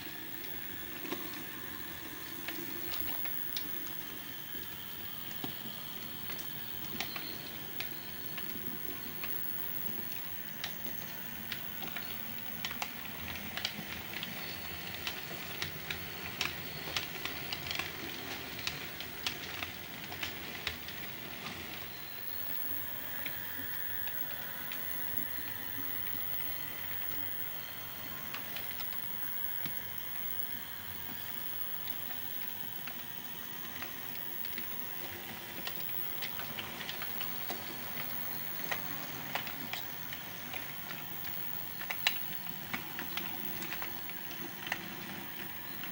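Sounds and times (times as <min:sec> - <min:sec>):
model locomotive running: 0:00.0 - 0:45.9.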